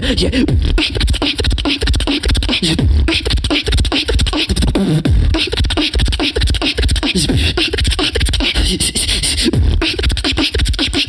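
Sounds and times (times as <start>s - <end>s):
gliding pitched vocal sounds: 0.0s - 11.0s
human beatboxing: 0.0s - 11.0s.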